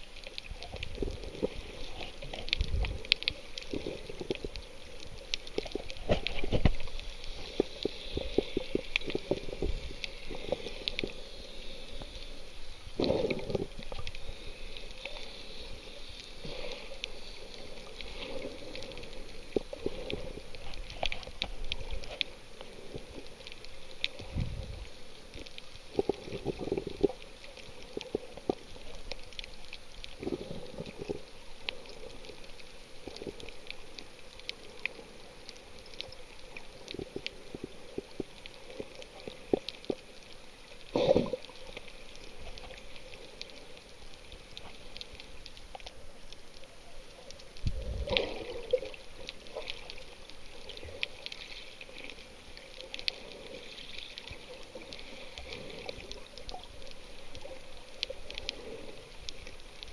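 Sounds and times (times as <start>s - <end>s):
crackle of small clicks: 0.0s - 59.9s
muffled underwater wash: 0.0s - 59.9s
muffled water surges: 0.0s - 59.9s.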